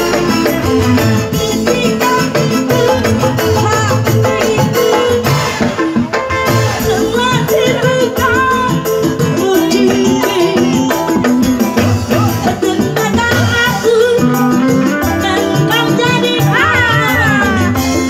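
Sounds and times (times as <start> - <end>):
live band music: 0.0 - 18.0
woman singing into microphone: 0.0 - 18.0.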